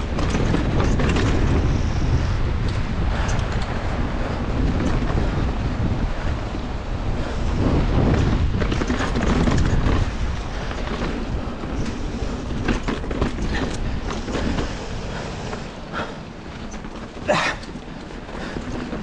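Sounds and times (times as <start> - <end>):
tyres rolling over dirt and rocks: 0.0 - 6.4, 7.4 - 19.0
bike clicks and rattles: 0.0 - 19.0
wind buffeting microphone: 0.0 - 19.0.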